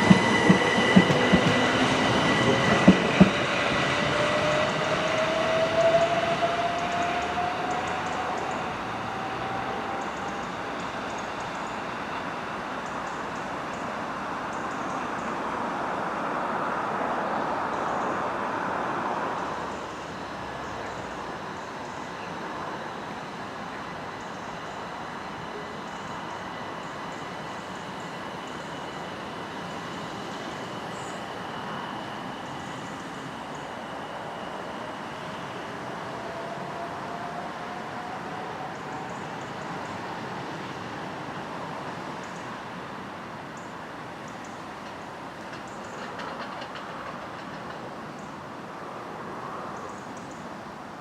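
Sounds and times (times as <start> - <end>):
train passing: 0.0 - 51.0.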